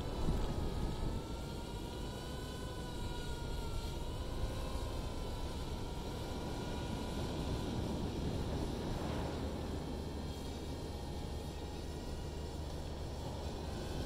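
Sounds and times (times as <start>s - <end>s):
drone whine: 0.0s - 14.0s
wind: 0.0s - 14.0s.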